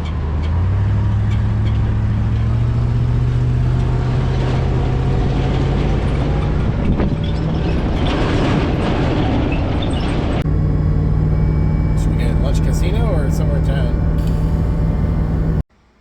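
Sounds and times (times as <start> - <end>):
truck engine cruising: 0.0 - 8.8, 10.4 - 15.7
road and tyre rumble: 0.0 - 15.7.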